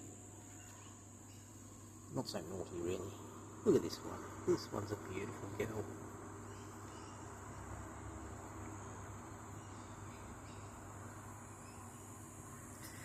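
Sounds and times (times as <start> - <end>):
crickets chirring: 0.0 - 13.0
low steady hum: 0.0 - 13.0.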